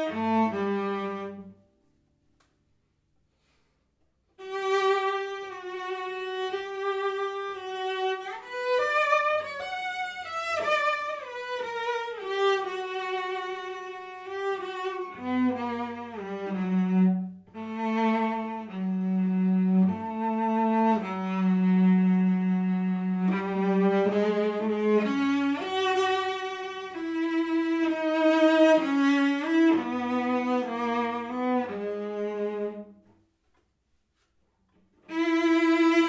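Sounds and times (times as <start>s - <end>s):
bowed cello: 0.0s - 1.8s, 4.3s - 33.2s, 34.8s - 36.0s.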